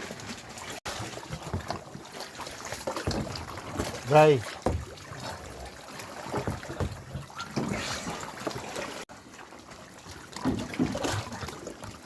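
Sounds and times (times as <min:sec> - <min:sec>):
shallow water trickling and splashing: 0:00.0 - 0:12.0.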